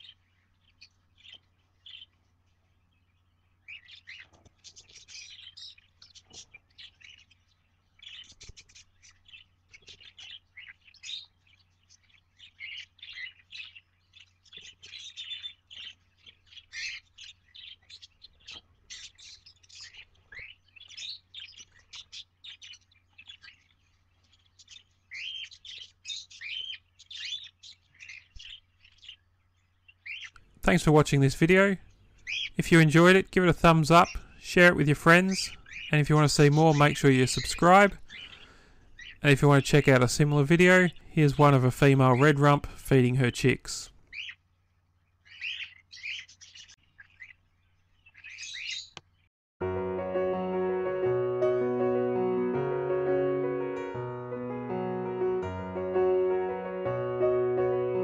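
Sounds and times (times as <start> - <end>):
bird chicks chirping and squeaking: 0.0 - 49.3.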